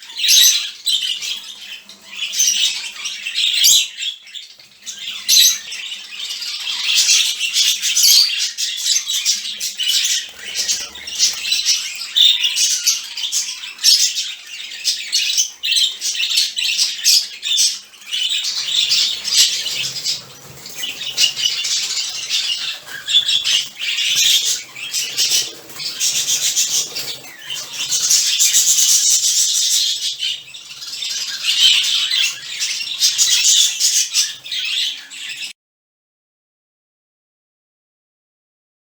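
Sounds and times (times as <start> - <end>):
budgerigars chattering and squawking: 0.0 - 35.5.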